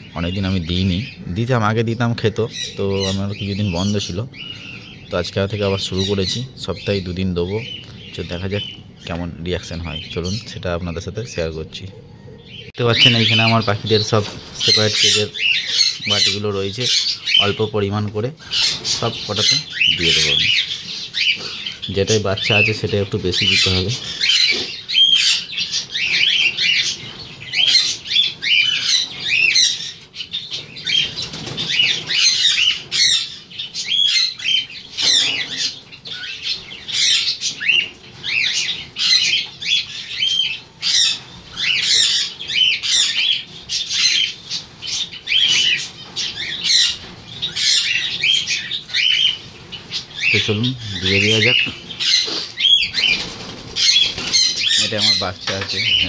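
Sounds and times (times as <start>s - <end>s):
caged birds chirping and squawking: 0.0s - 56.0s.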